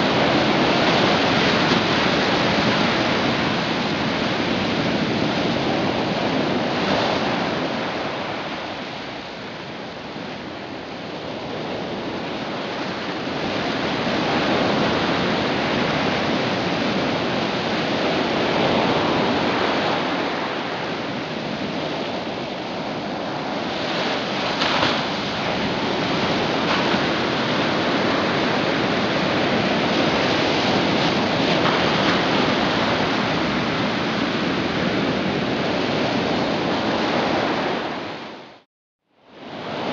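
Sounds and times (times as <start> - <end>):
ocean surf rushing: 0.0 - 38.6, 39.3 - 39.9.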